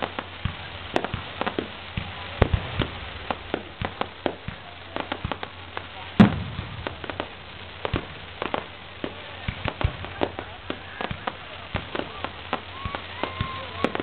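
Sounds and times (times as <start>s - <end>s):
firework bang and boom: 0.0s - 14.0s
fireworks pops and crackles: 0.0s - 14.0s.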